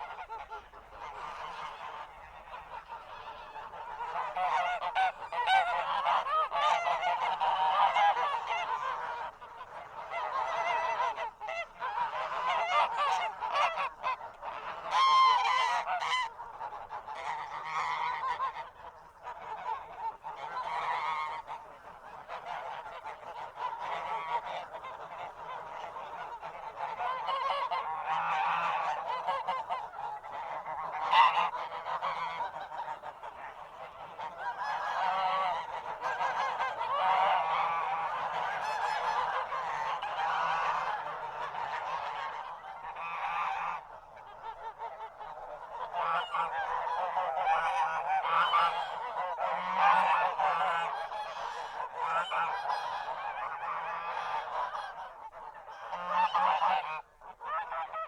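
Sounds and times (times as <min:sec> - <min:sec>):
geese honking: 0:00.0 - 0:58.0.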